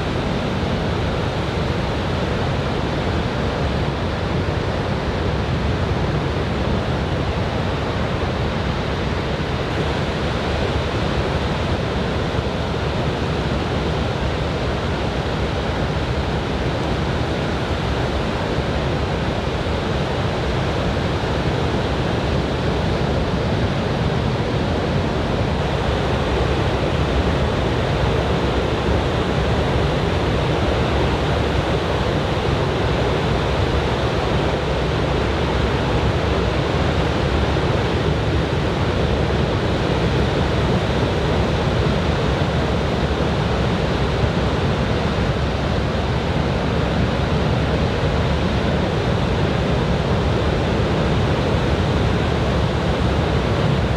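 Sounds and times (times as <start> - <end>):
surf washing on beach: 0.0 - 53.9.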